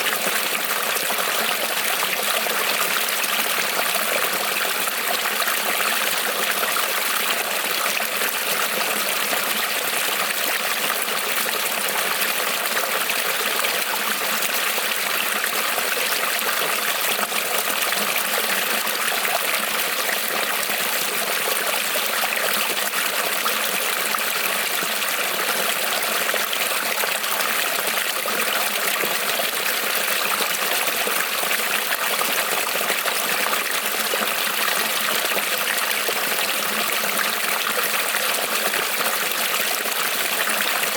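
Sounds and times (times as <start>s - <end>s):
creek trickling over stones: 0.0s - 40.9s.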